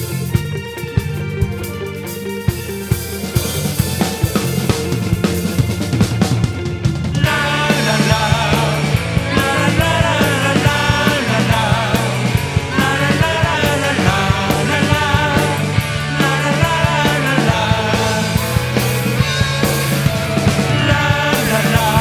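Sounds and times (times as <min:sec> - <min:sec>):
bass line: 0:00.0 - 0:22.0
drum beat: 0:00.0 - 0:22.0.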